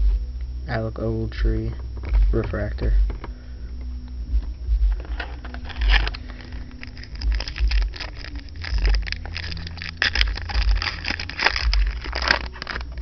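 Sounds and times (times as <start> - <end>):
dull low thumps: 0.0 - 13.0
card wrappers crackling and rustling: 1.7 - 13.0.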